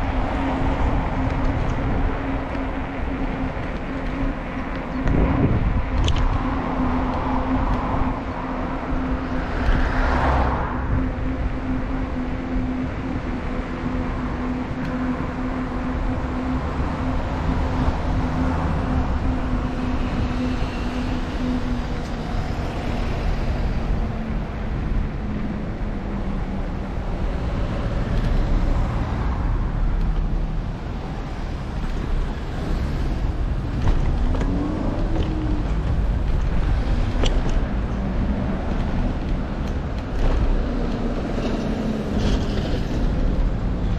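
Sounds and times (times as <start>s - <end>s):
motor traffic passing: 0.0s - 43.9s
wind and road rumble: 0.0s - 43.9s.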